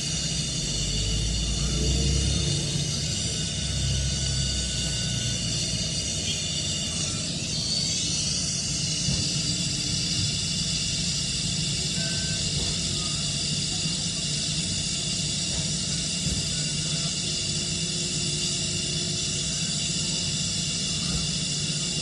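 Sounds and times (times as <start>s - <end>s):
torch flame hissing: 0.0s - 22.0s.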